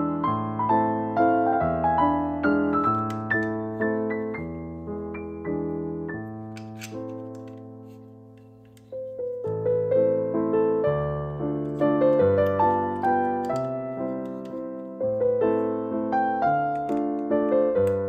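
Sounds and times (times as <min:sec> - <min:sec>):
piano music with bass line: 0:00.0 - 0:18.0.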